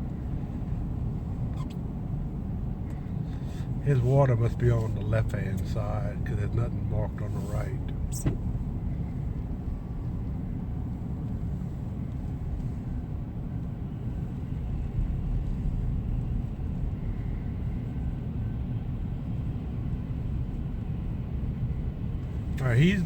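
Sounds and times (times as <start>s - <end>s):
engine and tyre rumble in cabin: 0.0s - 23.0s.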